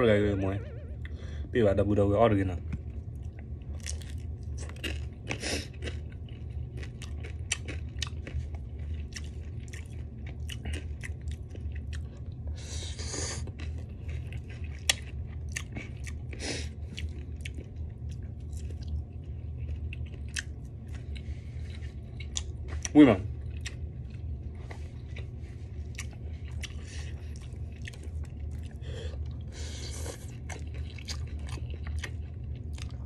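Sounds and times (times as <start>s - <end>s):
chewing and crunching food: 2.6s - 33.0s.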